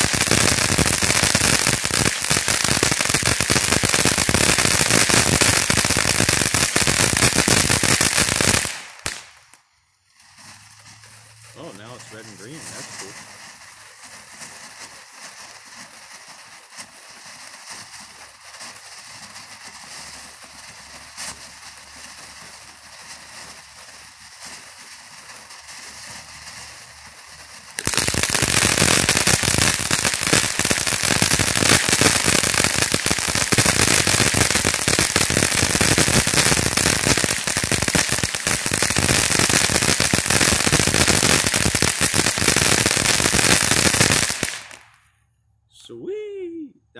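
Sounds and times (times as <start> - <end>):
rapid firecracker pops: 0.0 - 9.6, 11.6 - 45.0
firework fountain hissing: 0.0 - 45.2.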